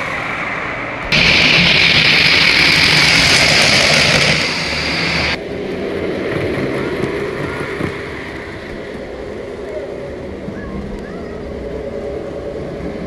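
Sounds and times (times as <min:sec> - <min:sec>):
model train rushing by: 0:00.0 - 0:13.0
low model train rumble: 0:01.0 - 0:13.0.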